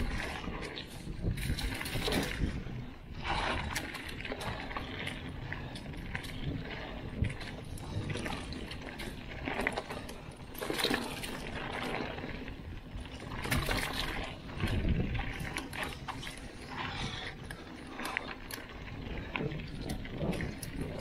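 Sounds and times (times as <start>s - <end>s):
bike parts rattling and clicking: 0.0s - 2.7s, 3.3s - 21.0s
bike tyres rushing on dirt: 0.0s - 21.0s.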